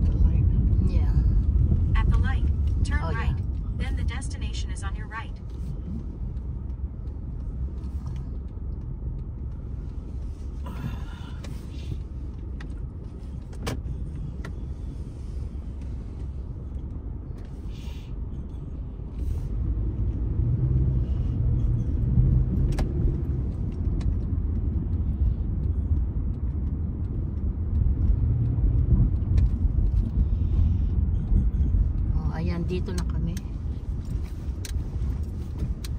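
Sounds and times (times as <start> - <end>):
car road and engine rumble: 0.0 - 35.9.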